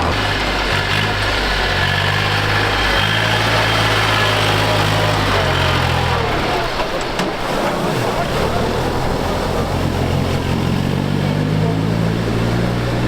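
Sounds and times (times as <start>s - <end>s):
tractor engines running: 0.0s - 13.0s.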